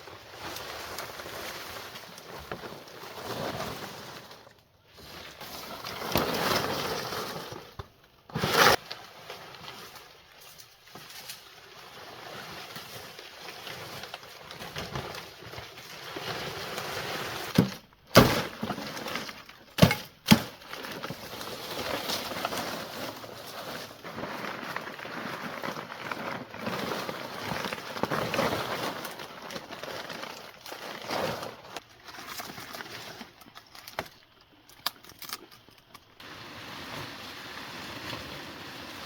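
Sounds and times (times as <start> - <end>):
rustling and scraping: 0.0 - 39.0.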